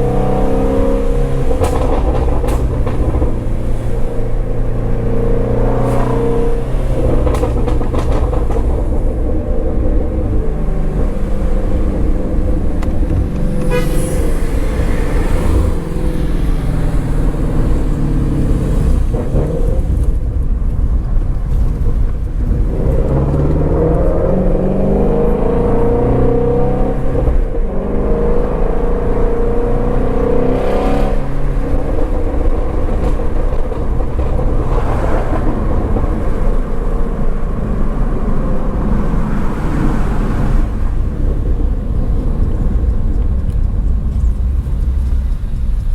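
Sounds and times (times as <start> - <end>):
car engine revving while driving: 0.0 - 20.4, 21.5 - 45.9.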